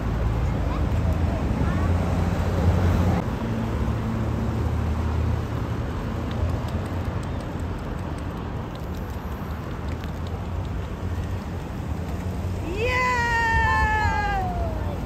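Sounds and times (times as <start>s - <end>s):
road traffic with tyre noise: 0.0s - 15.0s.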